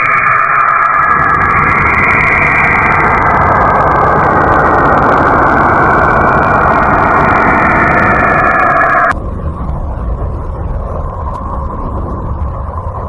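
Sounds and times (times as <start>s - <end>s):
low rumble: 0.0s - 13.0s
steady rushing drone: 0.0s - 13.0s.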